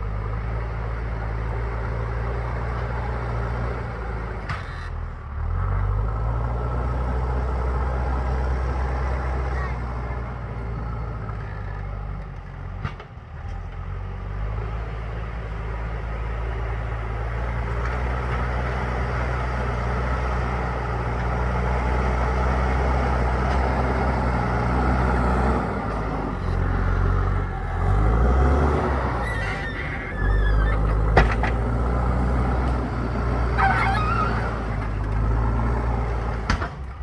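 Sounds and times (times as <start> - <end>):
backhoe diesel engine running: 0.0 - 37.0.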